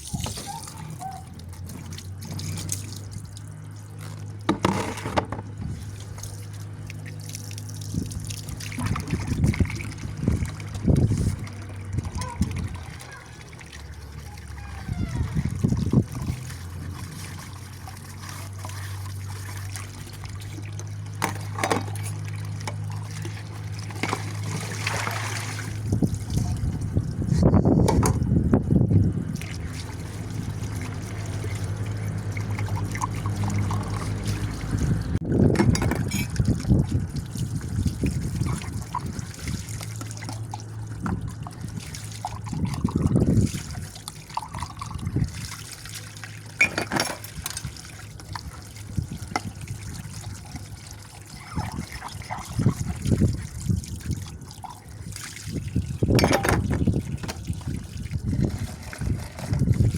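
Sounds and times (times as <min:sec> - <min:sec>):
water running and splashing: 0:00.0 - 0:28.2, 0:29.2 - 0:35.2, 0:35.9 - 0:59.9.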